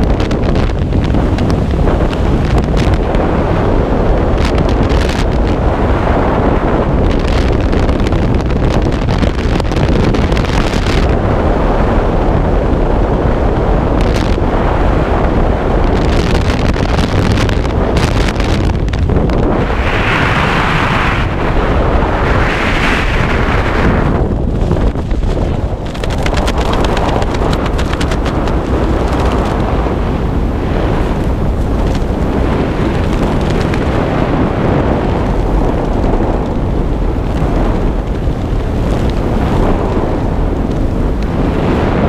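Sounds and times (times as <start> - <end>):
freefall wind rushing: 0.0 - 42.0.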